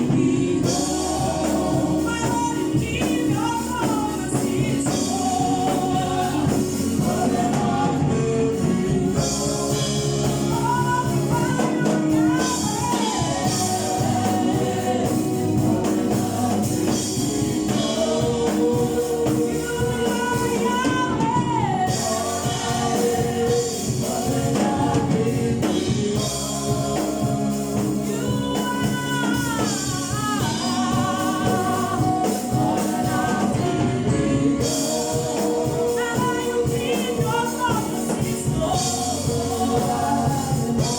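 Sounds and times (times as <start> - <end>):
band accompaniment with drums: 0.0 - 40.9
choir singing gospel: 0.0 - 40.9.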